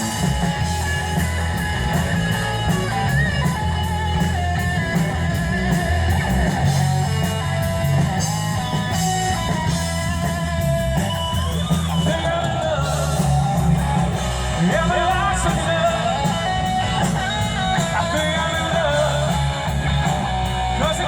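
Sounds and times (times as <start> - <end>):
electric guitar: 0.0 - 21.0
heavy bass line: 0.0 - 21.0.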